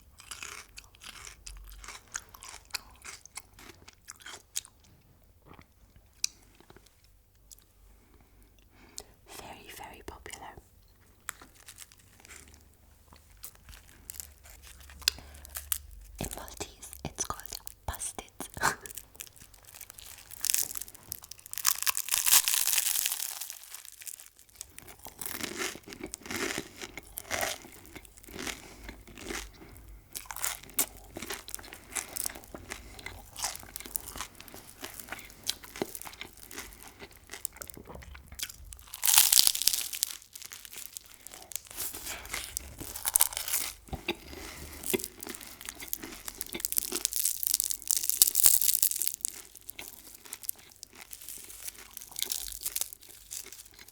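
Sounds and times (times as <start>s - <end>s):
crunching bites: 0.1s - 4.7s, 13.2s - 53.9s.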